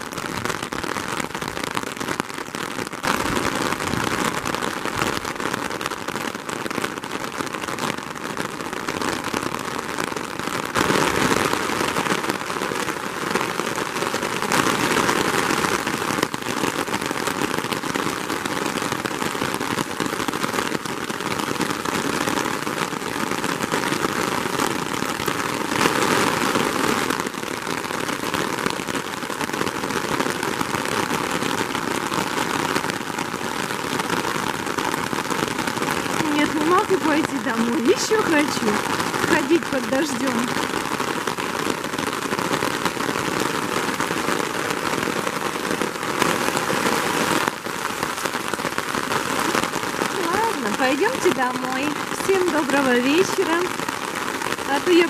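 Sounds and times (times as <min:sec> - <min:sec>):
rain pattering on umbrella: 0:00.0 - 0:55.0.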